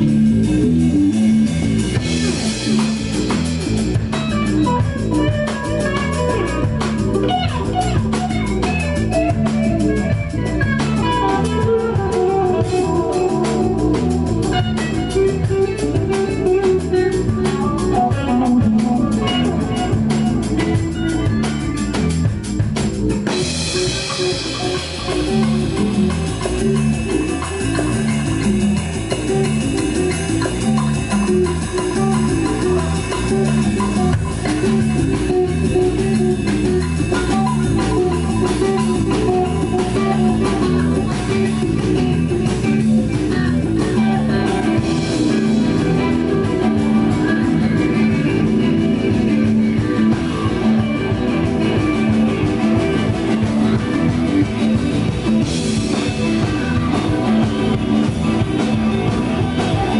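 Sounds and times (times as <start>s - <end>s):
busy drumming: 0.0s - 59.9s
electric guitar: 0.0s - 59.9s.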